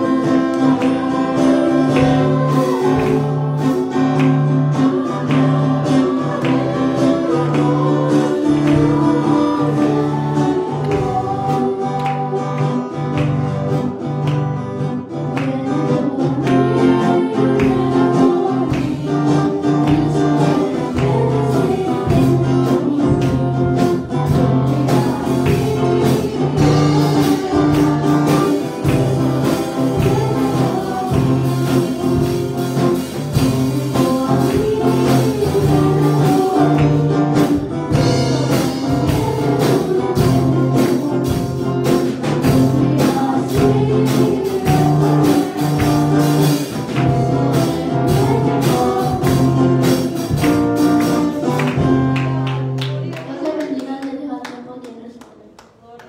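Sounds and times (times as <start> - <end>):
girl singing a hymn: 0.0 - 13.0, 15.2 - 52.1
instrumental accompaniment with beat: 0.0 - 53.3.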